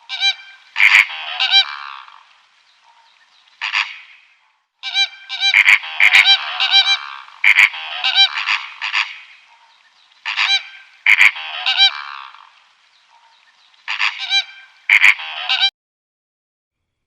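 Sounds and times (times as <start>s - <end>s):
animal calling: 0.0s - 15.7s.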